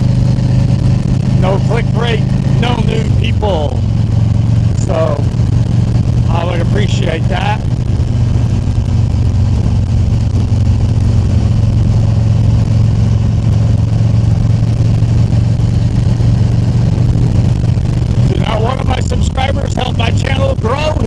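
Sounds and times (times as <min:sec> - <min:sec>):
motorcycle engine droning: 0:00.0 - 0:21.0
wind and road noise: 0:00.0 - 0:21.0.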